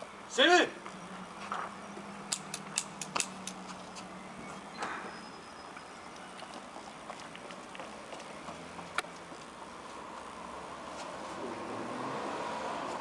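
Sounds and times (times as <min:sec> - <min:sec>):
low outdoor background: 0:00.0 - 0:13.0.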